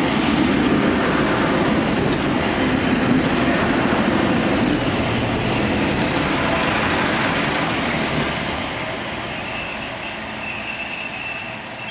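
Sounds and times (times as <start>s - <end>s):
train rumbling on rails: 0.0s - 11.9s.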